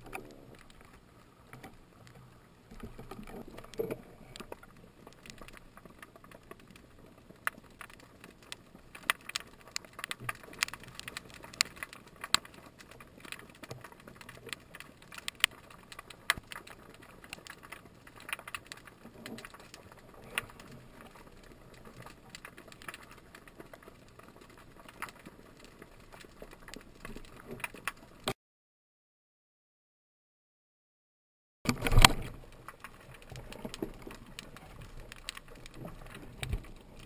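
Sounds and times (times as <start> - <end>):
underwater clicks and crackles: 0.0 - 28.4, 31.7 - 37.0.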